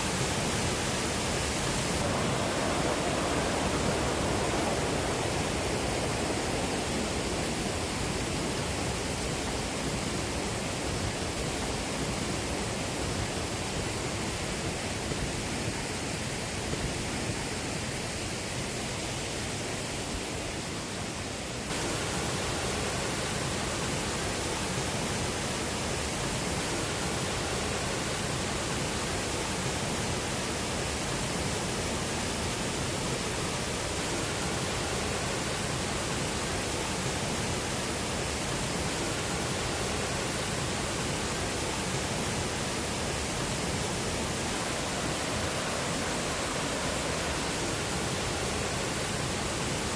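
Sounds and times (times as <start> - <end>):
mountain water rushing: 0.0 - 49.9.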